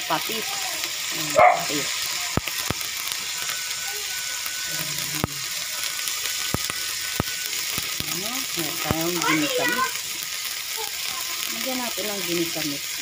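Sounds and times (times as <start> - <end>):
food sizzling in wok: 0.0 - 13.0.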